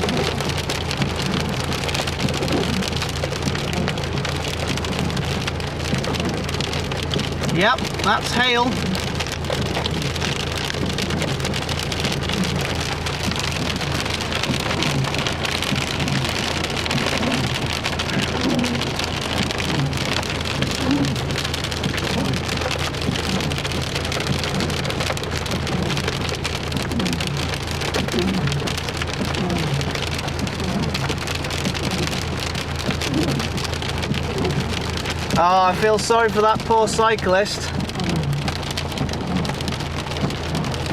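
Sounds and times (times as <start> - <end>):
hail clattering on car roof: 0.0 - 40.9.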